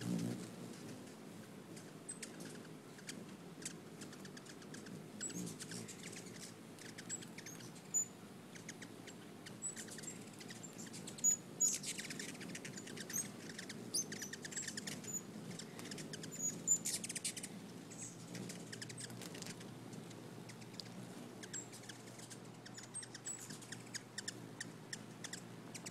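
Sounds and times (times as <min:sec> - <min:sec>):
hummingbird chip notes: 0:00.0 - 0:25.9
hummingbird twittering chatter: 0:00.0 - 0:25.9.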